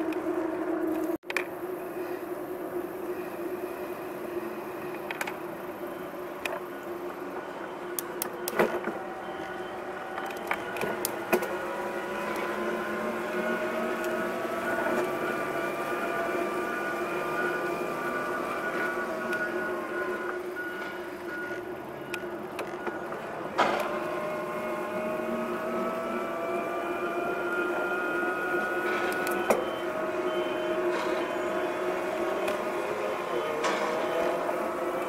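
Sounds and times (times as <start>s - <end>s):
bike mechanical whine: 0.0s - 35.0s.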